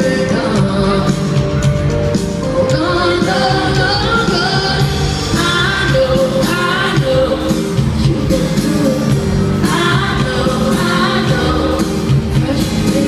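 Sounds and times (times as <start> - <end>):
woman singing: 0.0 - 1.7, 2.4 - 13.0
live band playing: 0.0 - 13.0.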